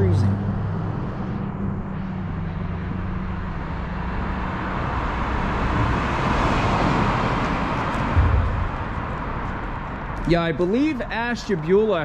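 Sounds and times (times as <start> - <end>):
low engine hum: 0.0 - 10.3.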